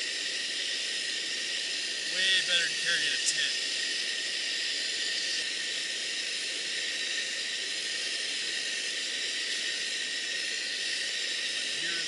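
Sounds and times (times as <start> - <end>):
gas stove burner hissing: 0.0 - 12.0.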